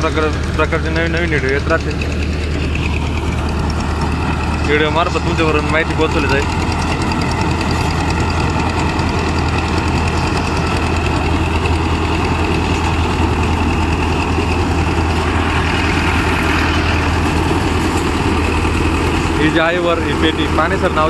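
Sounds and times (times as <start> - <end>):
combine harvester machinery drone: 0.0 - 21.0
tractor diesel engine running: 0.0 - 21.0.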